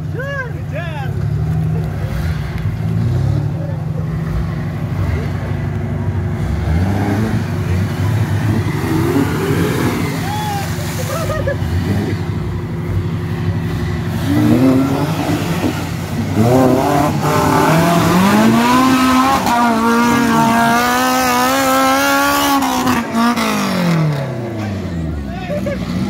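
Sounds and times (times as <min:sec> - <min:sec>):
off-road engine revving under load: 0:01.2 - 0:26.0.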